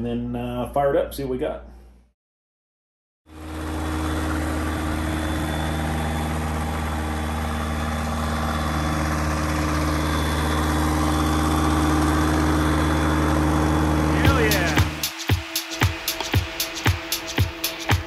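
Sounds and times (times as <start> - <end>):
light aircraft engine and propeller: 3.3 - 17.9.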